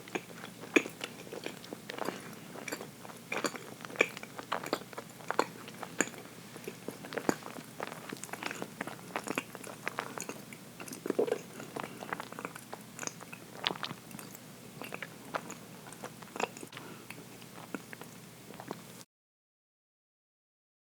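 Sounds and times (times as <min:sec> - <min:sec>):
chewing and mouth sounds: 0:00.0 - 0:19.0.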